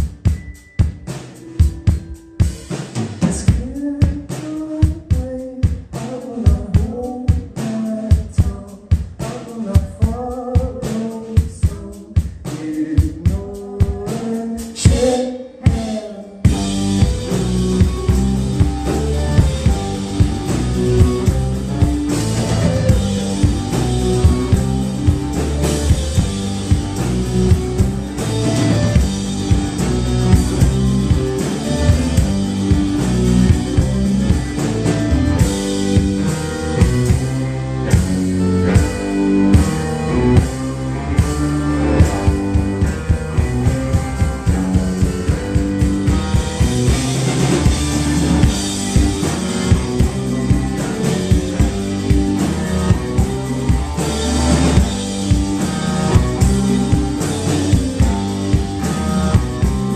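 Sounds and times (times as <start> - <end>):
drums keeping steady beat: 0.0 - 59.9
live rock band playing: 0.0 - 59.9.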